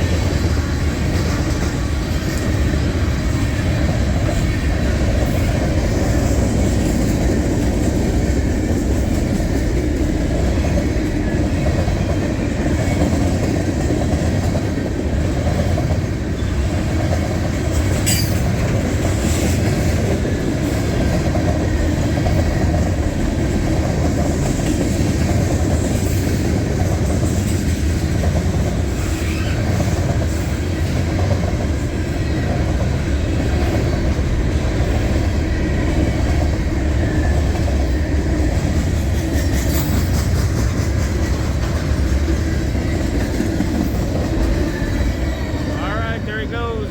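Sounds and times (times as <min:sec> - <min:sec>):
wheels clacking over rail joints: 0:00.0 - 0:45.8
freight train wheels rumbling: 0:00.0 - 0:46.9.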